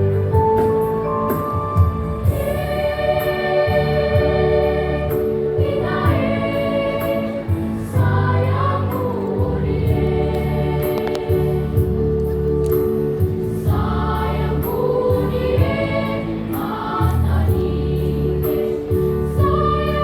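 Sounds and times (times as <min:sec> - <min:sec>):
instrumental accompaniment with beat: 0:00.0 - 0:17.8
choir singing in harmony: 0:00.0 - 0:20.0.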